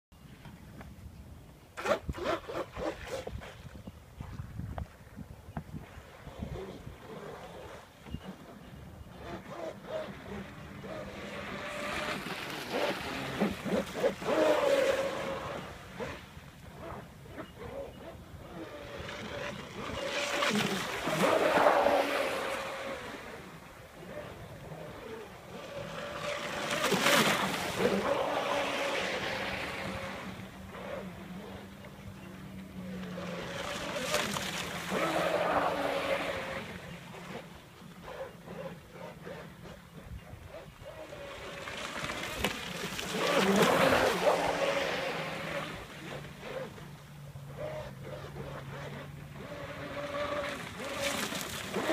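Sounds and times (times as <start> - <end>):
small waves washing in: 9.2 - 39.8, 40.9 - 51.9.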